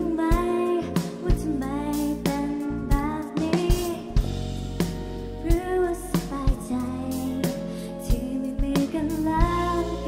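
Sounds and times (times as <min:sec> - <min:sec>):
woman singing: 0:00.0 - 0:04.4, 0:05.4 - 0:10.0
band playing pop ballad: 0:00.0 - 0:10.0
bass guitar low notes: 0:00.0 - 0:10.0
drums marking the beat: 0:00.0 - 0:10.0.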